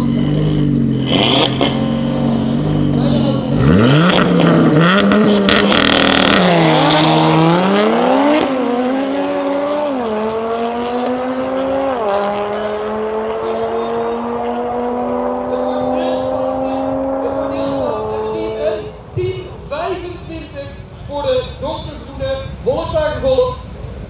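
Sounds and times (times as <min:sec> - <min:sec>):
car engines revving: 0:00.0 - 0:22.7.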